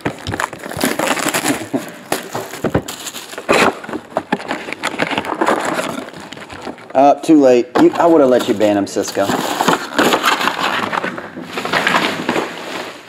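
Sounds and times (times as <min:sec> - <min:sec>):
foil packs crinkling: 0:00.0 - 0:13.0
plastic wrap and cardboard tearing: 0:00.0 - 0:13.0.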